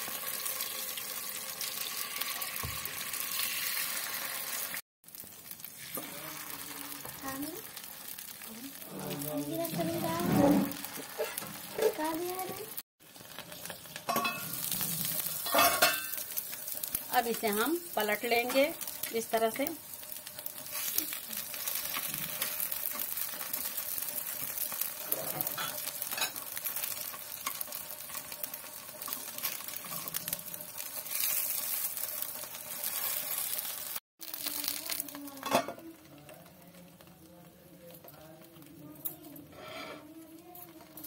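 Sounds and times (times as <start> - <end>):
dumplings sizzling in hot oil: 0.0 - 41.0.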